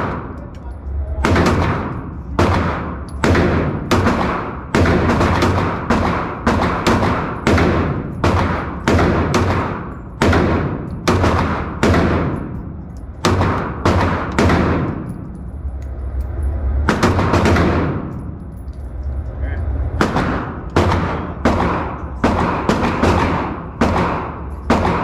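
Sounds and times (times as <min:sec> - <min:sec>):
handgun shots with ringing echo: 0:01.2 - 0:15.4, 0:16.8 - 0:18.4, 0:20.0 - 0:25.0.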